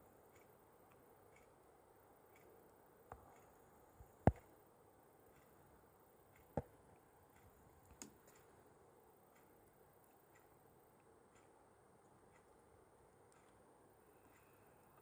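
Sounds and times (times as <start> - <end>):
faint even ticking: 0.0 - 15.0.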